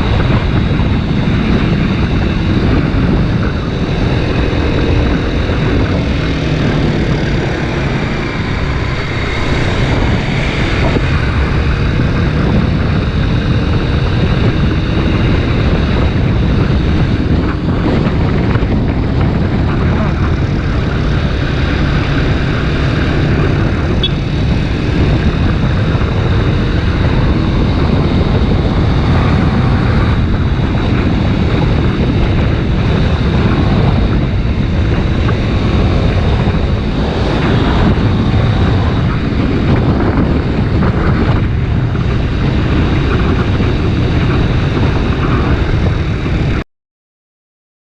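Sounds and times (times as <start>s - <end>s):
motorcycle engine running: 0.0s - 46.6s
wind rush on microphone: 0.0s - 46.6s.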